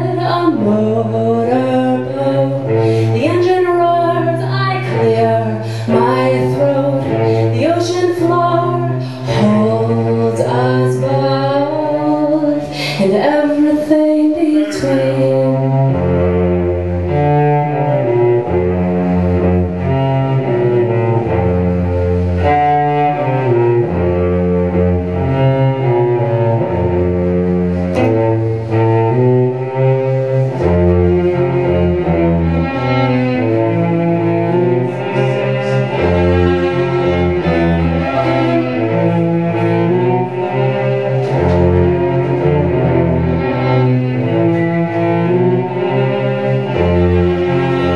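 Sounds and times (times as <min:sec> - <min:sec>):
bowed cello: 0:00.0 - 0:47.9.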